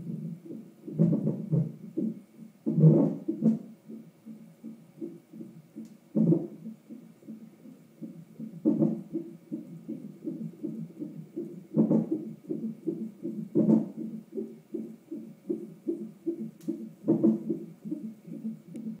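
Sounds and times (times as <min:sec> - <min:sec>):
whooshing doppler heartbeat: 0:00.0 - 0:19.0.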